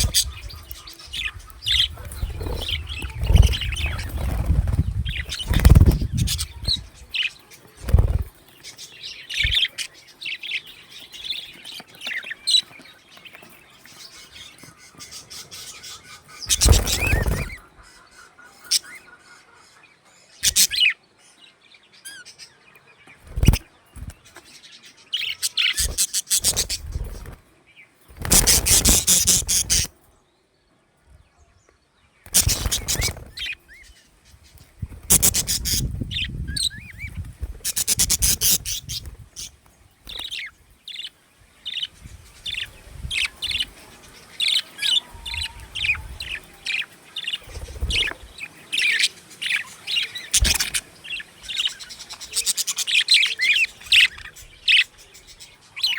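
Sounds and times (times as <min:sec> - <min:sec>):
budgerigars chirping: 0:00.0 - 0:08.2, 0:08.8 - 0:12.8, 0:14.0 - 0:21.0, 0:25.2 - 0:27.4, 0:28.2 - 0:29.9, 0:32.3 - 0:34.0, 0:34.9 - 0:55.9.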